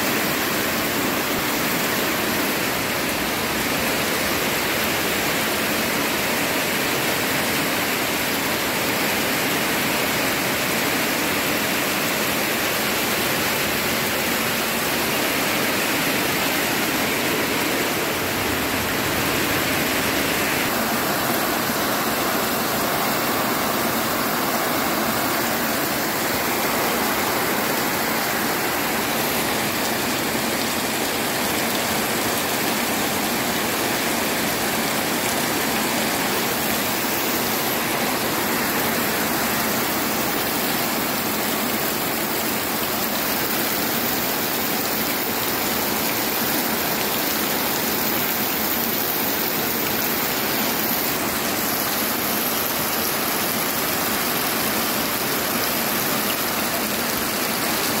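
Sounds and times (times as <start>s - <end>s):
heavy rain on mud and plants: 0.0s - 58.0s.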